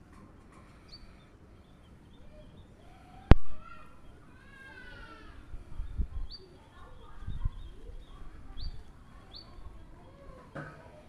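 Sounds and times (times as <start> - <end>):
small bird chirping: 0.2 - 10.5.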